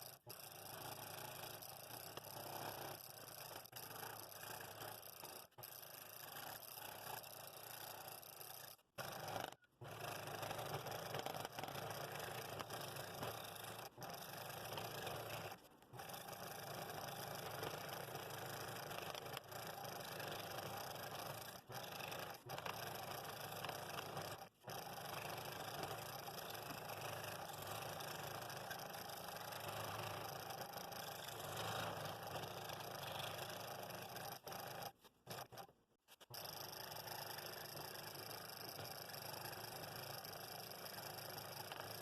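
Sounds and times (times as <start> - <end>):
scroll saw cutting wood: 1.4 - 42.0.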